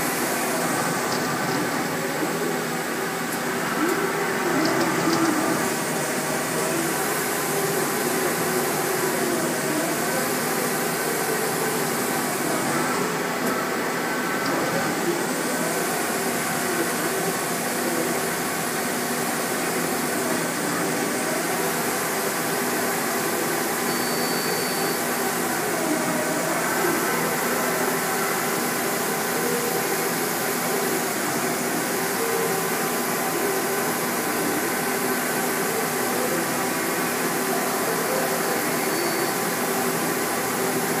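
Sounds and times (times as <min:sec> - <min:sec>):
lathe machine whirring: 0:00.0 - 0:41.0.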